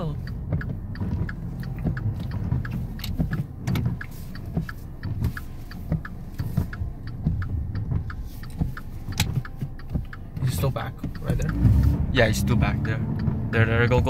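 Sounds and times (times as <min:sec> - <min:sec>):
car engine running under load: 0:00.0 - 0:14.0
light ticking: 0:00.0 - 0:14.0.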